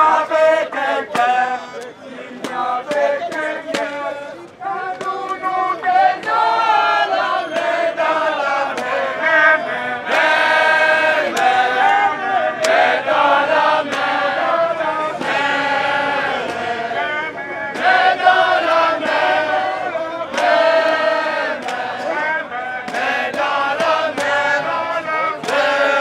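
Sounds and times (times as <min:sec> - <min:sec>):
group of people singing: 0:00.0 - 0:26.0.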